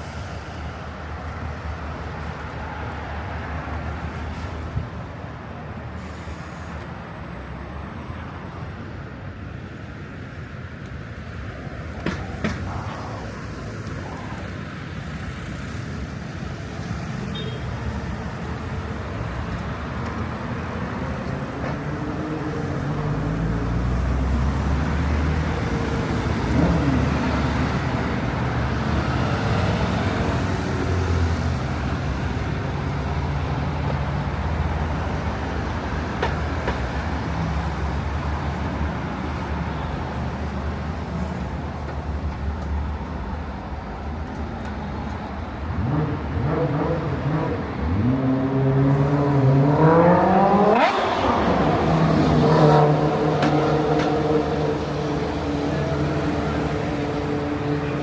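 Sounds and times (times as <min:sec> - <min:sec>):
heavy vehicle engine hum: 0:00.0 - 0:58.0
vehicles passing: 0:00.0 - 0:58.0.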